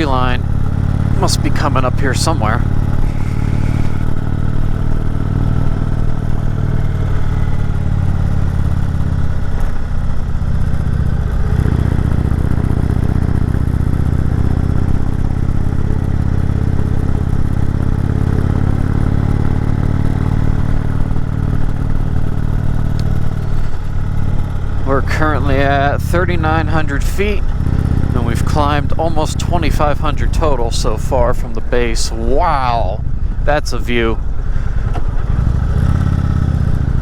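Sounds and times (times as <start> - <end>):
motorcycle engine running: 0.0 - 37.0
road noise: 0.0 - 37.0.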